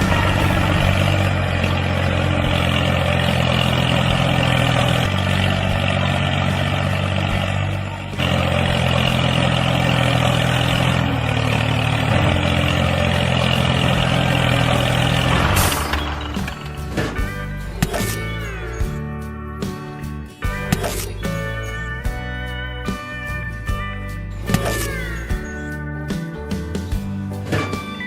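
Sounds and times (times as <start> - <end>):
engine running with low hum: 0.0 - 28.0.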